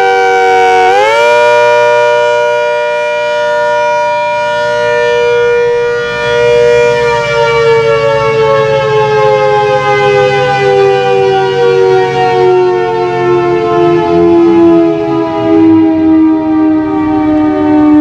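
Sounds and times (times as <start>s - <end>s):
warning siren steady tone: 0.0s - 18.0s.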